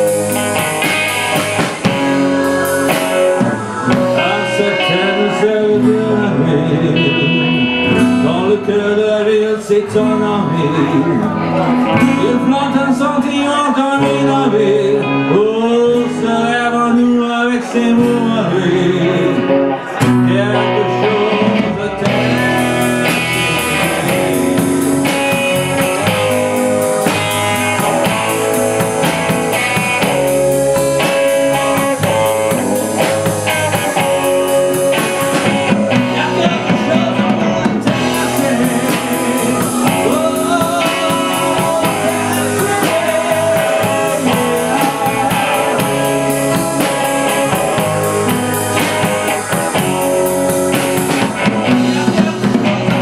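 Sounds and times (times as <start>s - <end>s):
live band playing: 0.0s - 53.0s.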